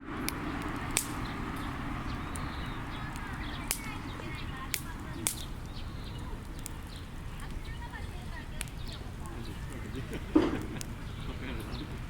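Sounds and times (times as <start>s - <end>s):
firewood crackles and pops: 0.0s - 12.0s
wood fire hissing: 0.0s - 12.0s.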